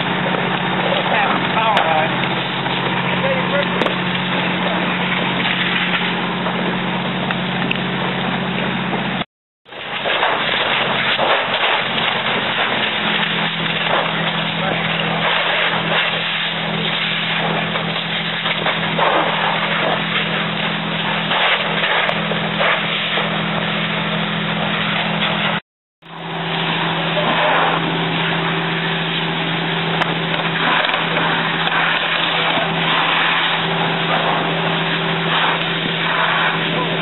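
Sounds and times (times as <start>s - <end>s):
fire engine droning: 0.0s - 37.0s.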